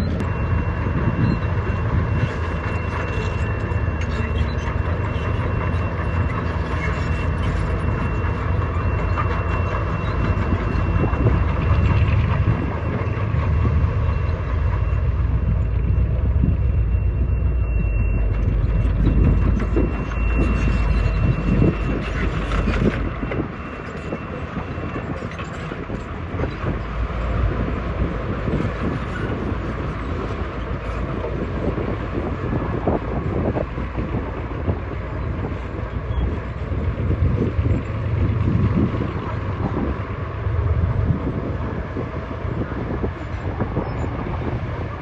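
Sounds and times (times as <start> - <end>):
deep rumble: 0.0 - 45.0
diesel engine running: 0.0 - 45.0.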